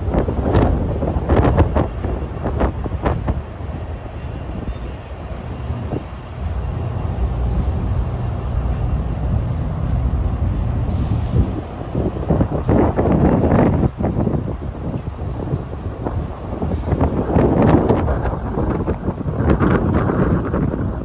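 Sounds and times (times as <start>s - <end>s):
freight train wheels rumbling: 0.0s - 21.0s
train knocks and rattles: 0.0s - 21.0s.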